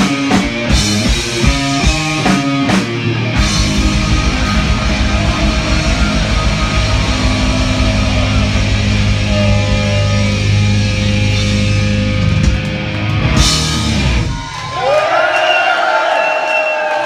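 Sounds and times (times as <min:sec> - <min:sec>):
heavy metal band playing live: 0:00.0 - 0:14.6.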